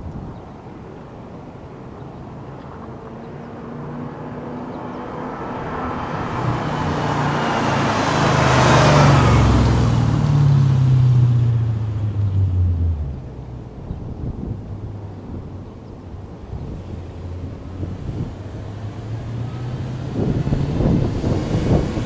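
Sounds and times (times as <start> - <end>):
car exhaust driving past: 2.4 - 22.0.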